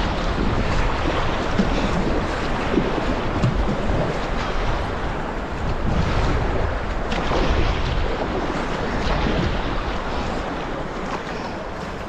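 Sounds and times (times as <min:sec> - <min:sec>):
river current rushing and splashing: 0:00.0 - 0:12.0
wind buffeting microphone: 0:00.0 - 0:12.0.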